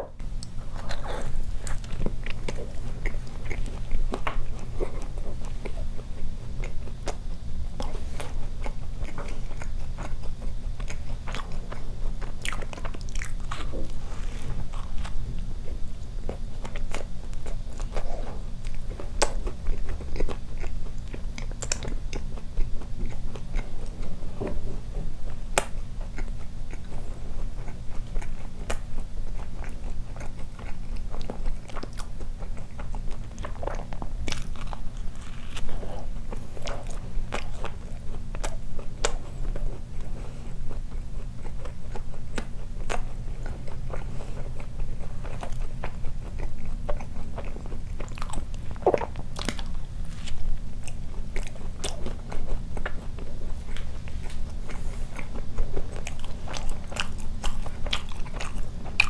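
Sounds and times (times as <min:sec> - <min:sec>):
steady low hum: 0:00.0 - 0:59.0
biting and chewing doughnut: 0:00.1 - 0:59.0.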